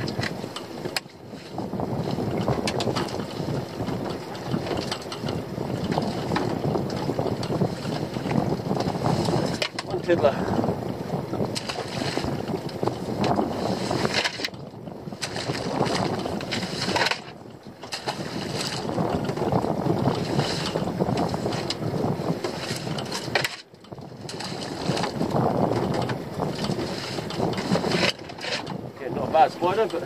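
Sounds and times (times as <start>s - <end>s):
water slopping against boat: 0.0s - 30.0s
wind buffeting microphone: 0.0s - 30.0s.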